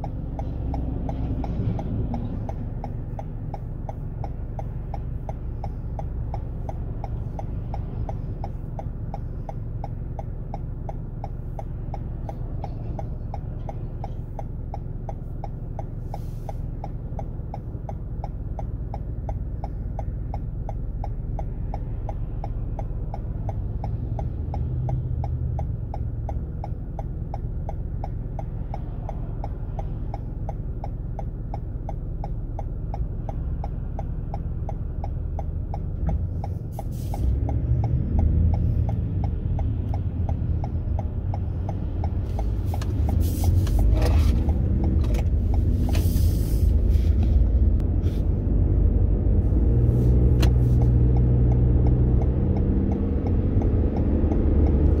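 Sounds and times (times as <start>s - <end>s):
car engine and road noise: 0.0s - 55.0s
car engine idling: 0.0s - 55.0s
turn signal ticking: 0.0s - 55.0s.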